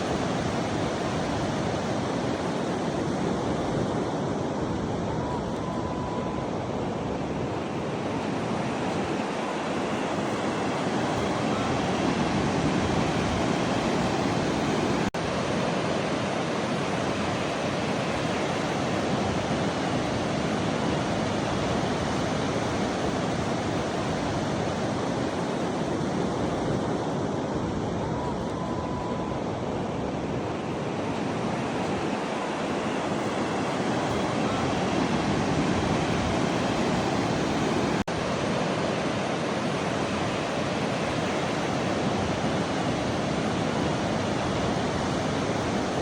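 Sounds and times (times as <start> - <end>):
ocean surf rushing: 0.0 - 46.0
wind: 0.0 - 46.0.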